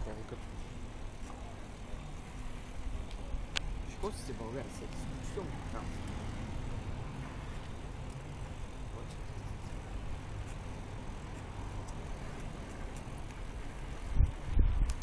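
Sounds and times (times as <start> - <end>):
low rumbling from moving bicycle: 0.0 - 15.0.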